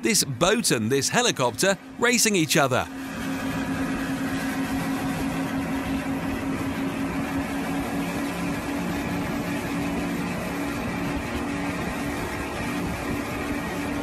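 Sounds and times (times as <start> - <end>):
helicopter flying low: 0.0 - 14.0
powerboat engine drone: 0.0 - 14.0
rushing wind and water: 0.0 - 14.0.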